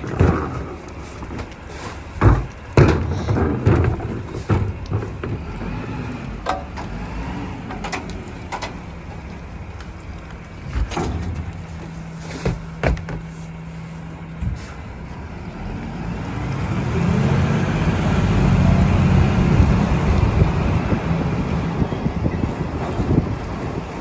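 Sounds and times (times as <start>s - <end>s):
garbage truck engine: 0.0s - 24.0s.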